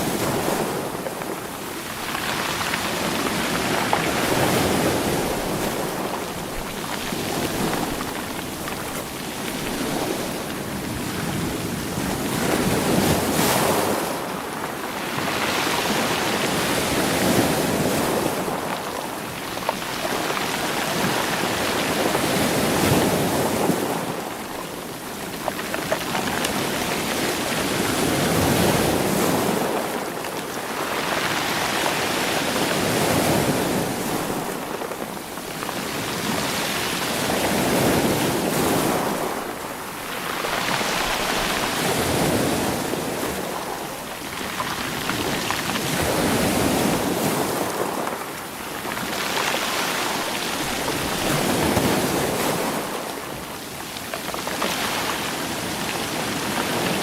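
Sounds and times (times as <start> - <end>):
stones rolling in surf: 0.0 - 14.3, 15.2 - 57.0
waves washing on rocky shore: 0.0 - 57.0.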